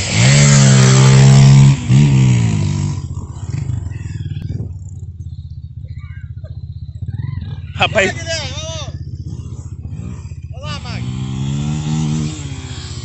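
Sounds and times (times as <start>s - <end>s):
dirt bike engine revving: 0.0s - 13.0s
engine puttering: 0.0s - 13.0s.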